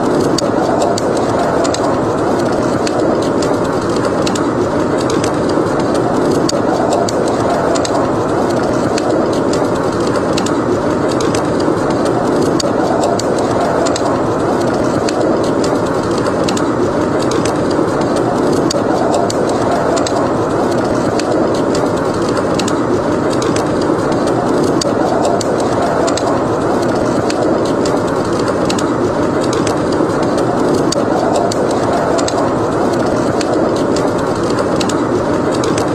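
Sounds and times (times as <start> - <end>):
blizzard wind rushing: 0.0 - 35.9
wood fire crackling: 0.0 - 35.9.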